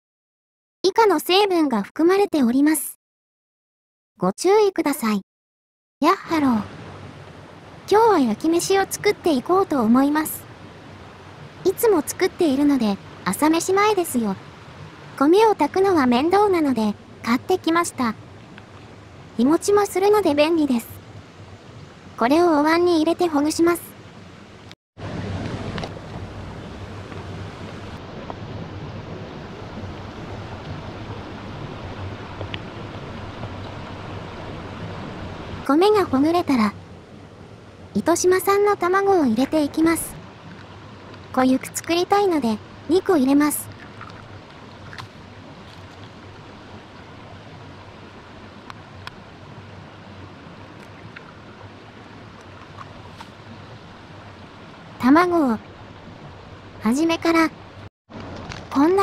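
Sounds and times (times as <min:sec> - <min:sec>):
stream water rushing: 0:06.2 - 0:59.0.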